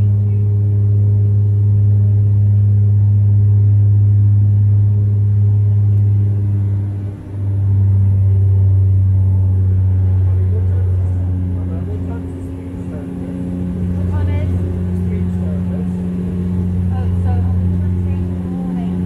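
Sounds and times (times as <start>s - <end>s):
turboprop cabin drone: 0.0s - 19.0s.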